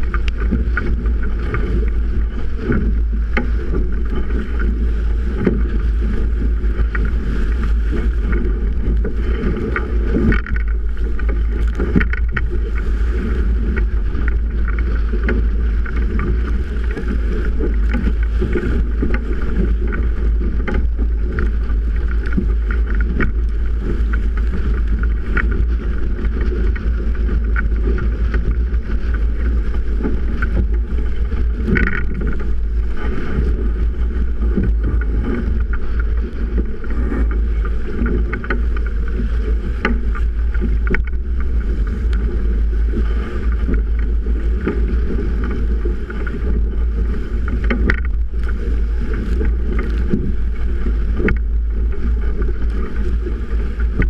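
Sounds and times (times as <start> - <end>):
water rushing past hull: 0.0 - 54.0
wind buffeting microphone: 0.0 - 54.0.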